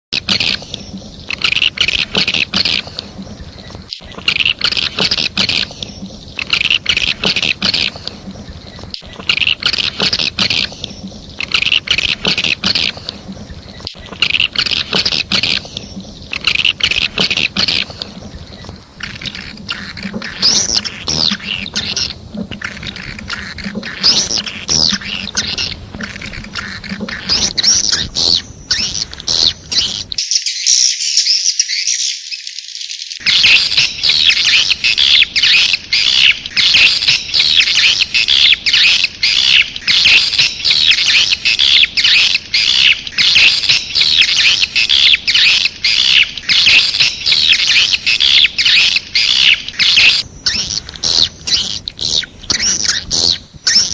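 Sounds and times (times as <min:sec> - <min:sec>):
high buzzy bird chirps: 0:00.2 - 0:53.9.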